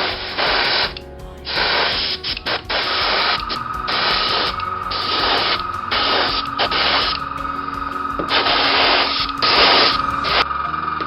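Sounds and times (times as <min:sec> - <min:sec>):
airbrush hissing bursts: 0:00.0 - 0:10.4.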